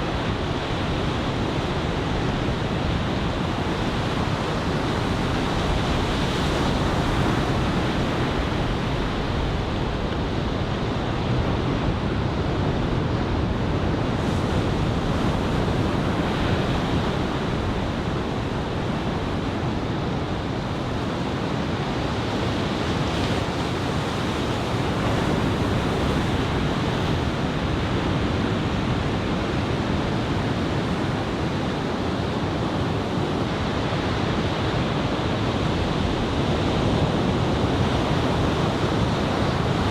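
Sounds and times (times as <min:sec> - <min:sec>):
ocean surf breaking on beach: 0:00.0 - 0:39.9
wind on microphone: 0:00.0 - 0:39.9.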